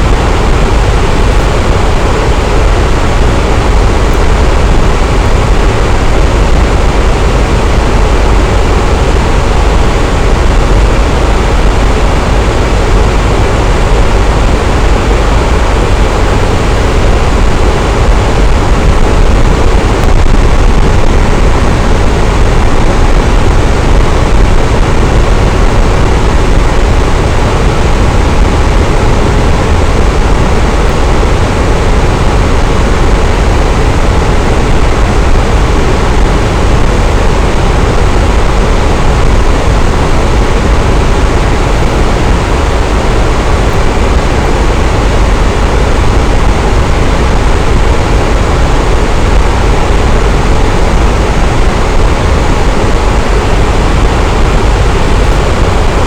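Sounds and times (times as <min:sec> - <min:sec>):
fan running: 0:00.0 - 0:56.0.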